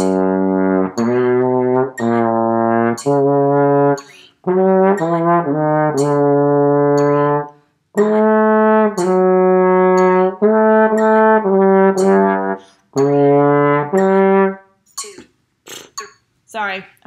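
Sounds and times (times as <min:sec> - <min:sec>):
trombone playing slow solo: 0:00.0 - 0:14.7
metronome clicking: 0:00.0 - 0:15.2, 0:15.9 - 0:16.2.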